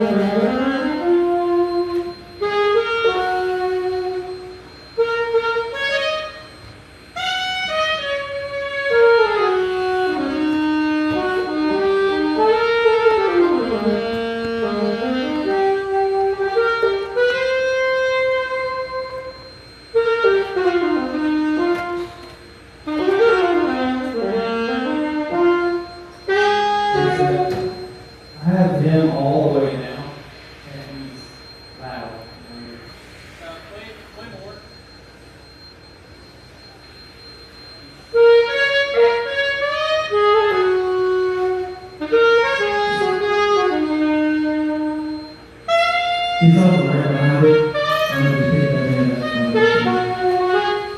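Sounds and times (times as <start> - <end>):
solo saxophone playing: 0.0 - 28.4, 38.1 - 50.9.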